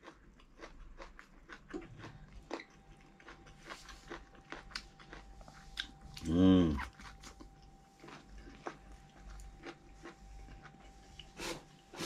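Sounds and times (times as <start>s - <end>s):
chewing and crunching food: 0.0s - 12.0s.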